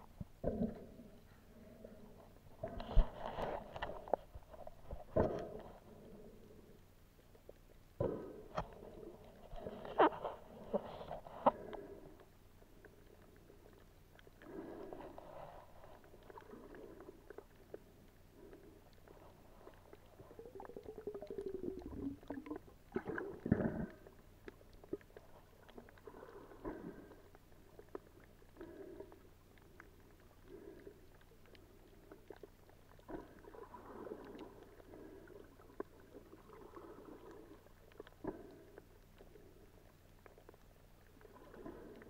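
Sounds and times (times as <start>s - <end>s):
underwater water sloshing: 0.0s - 42.0s.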